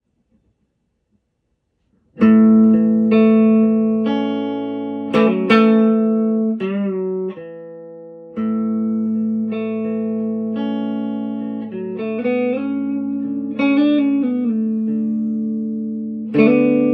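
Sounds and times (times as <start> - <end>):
electric guitar playing: 2.1 - 16.9.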